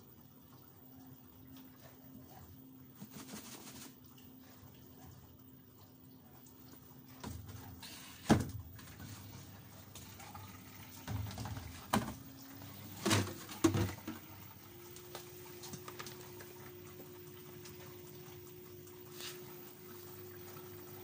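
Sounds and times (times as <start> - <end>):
washing machine humming: 0.0 - 21.0.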